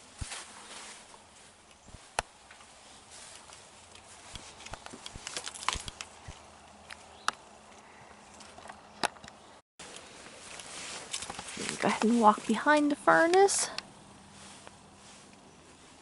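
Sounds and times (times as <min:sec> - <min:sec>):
footsteps on rough ground: 0:00.0 - 0:16.0.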